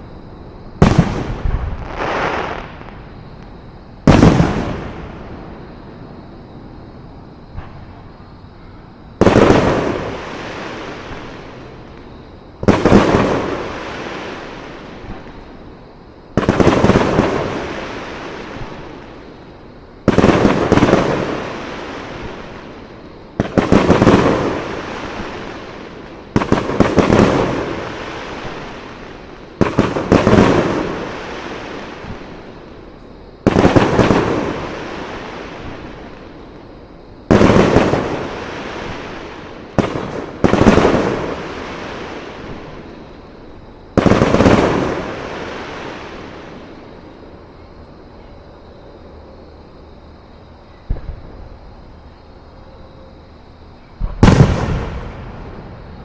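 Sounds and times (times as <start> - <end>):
fireworks booming: 0.0 - 6.8, 7.4 - 8.2, 9.2 - 15.6, 16.3 - 19.3, 20.0 - 32.8, 33.4 - 36.4, 37.2 - 47.2, 50.9 - 52.2, 54.0 - 56.0.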